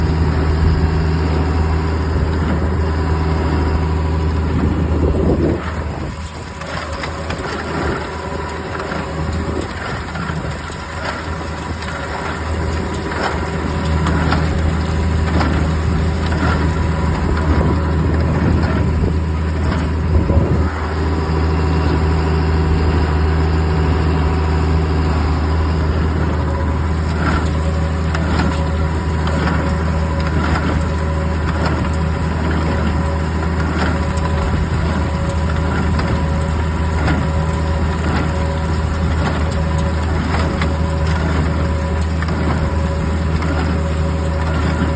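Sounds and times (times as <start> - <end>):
hay baler knocking and crunching: 0.0 - 44.9
tractor engine hum: 0.0 - 44.9.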